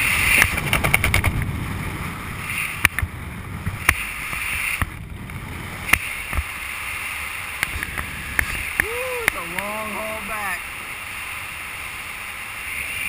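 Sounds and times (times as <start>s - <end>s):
airflow rushing over microphone: 0.0s - 13.0s.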